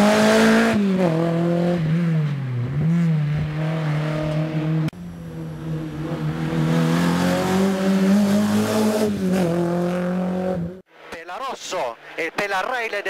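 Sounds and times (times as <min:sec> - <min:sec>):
rally car engine under load: 0:00.0 - 0:10.9.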